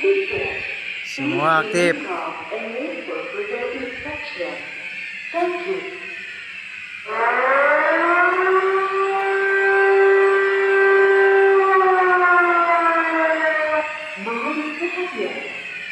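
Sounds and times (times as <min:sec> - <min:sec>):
fire alarm siren wail: 0:00.0 - 0:15.9.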